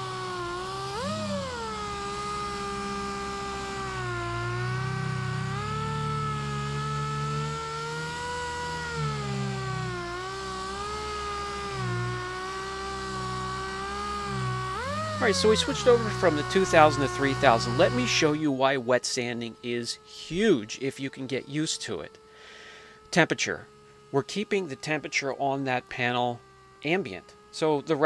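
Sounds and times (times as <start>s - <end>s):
air sander whining: 0.0s - 28.0s.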